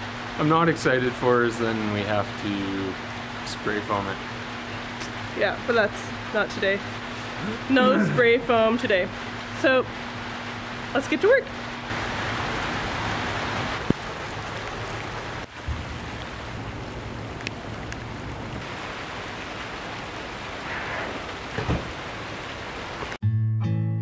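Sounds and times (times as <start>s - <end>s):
steady rain falling: 0.0s - 23.2s.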